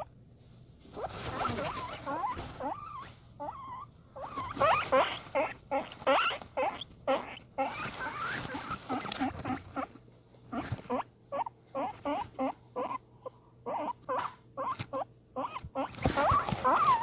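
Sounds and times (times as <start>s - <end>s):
rustling: 0.0s - 13.0s, 15.6s - 17.0s
guinea pig squeaking: 0.8s - 17.0s.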